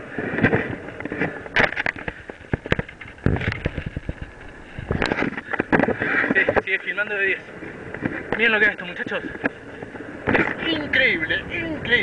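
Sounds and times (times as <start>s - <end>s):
bike rattling on rough trail: 0.0s - 12.0s.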